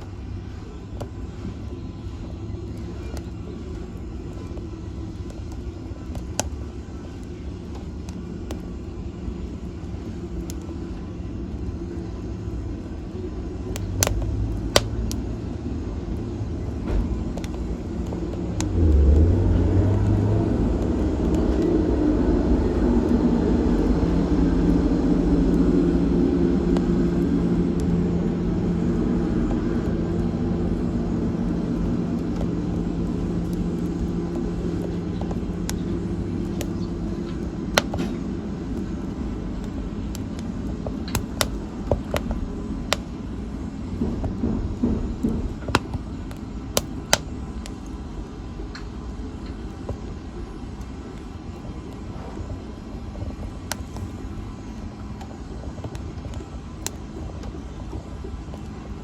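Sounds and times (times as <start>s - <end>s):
fire crackling pops: 0.0s - 59.0s
wood fire rumbling: 0.0s - 59.0s.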